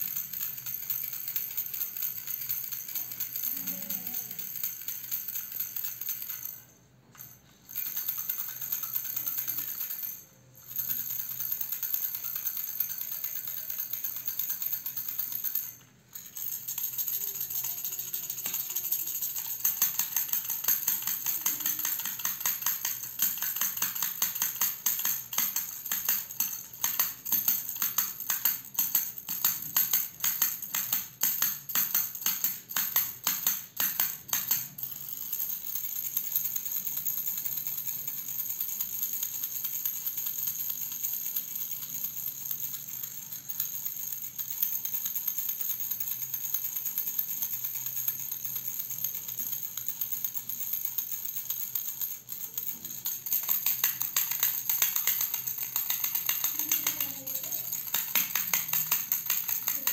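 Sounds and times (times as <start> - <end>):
baby rattle shaken: 0.0 - 59.9.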